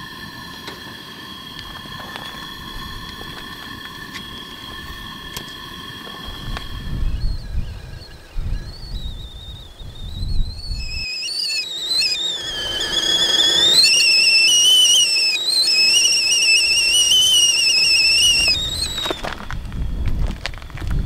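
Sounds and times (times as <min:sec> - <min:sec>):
kettle whistling: 0:00.0 - 0:21.0.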